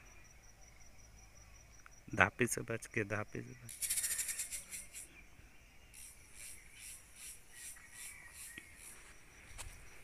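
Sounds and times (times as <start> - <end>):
insect chirping: 0.0 - 10.0.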